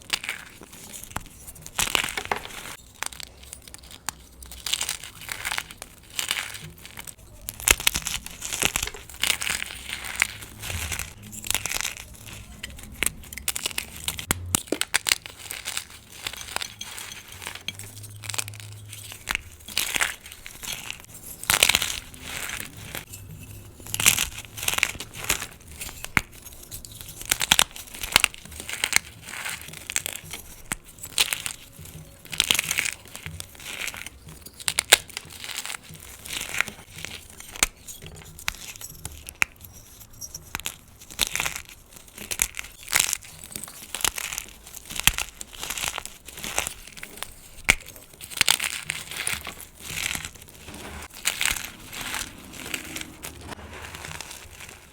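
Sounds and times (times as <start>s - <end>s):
chalk being crushed: 0.0s - 54.9s.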